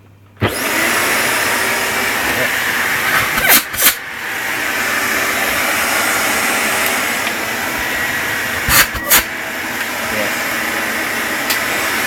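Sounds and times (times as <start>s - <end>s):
vacuum cleaner running: 0.4s - 12.0s.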